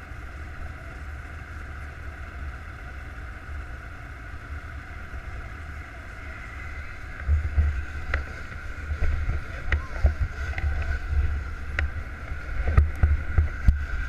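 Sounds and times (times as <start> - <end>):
snowmobile engines idling: 0.0 - 14.0.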